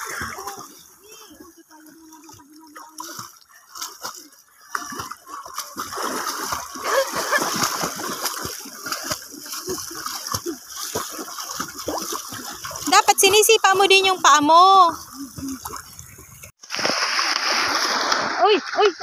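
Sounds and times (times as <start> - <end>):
children splashing in water: 0.0 - 19.0.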